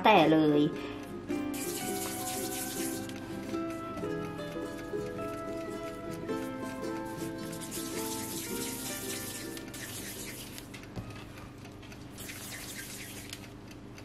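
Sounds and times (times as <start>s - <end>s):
quiet slow melody music: 0.0s - 12.1s.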